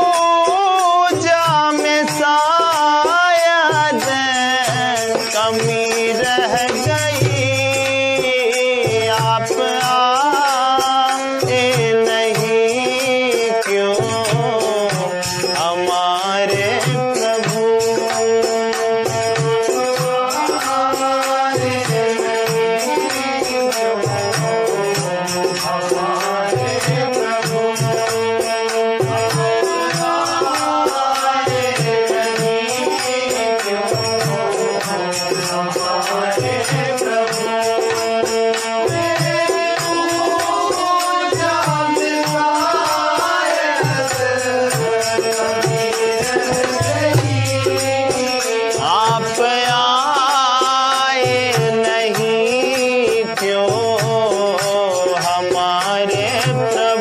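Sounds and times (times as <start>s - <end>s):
steady percussion beat: 0.0s - 57.0s.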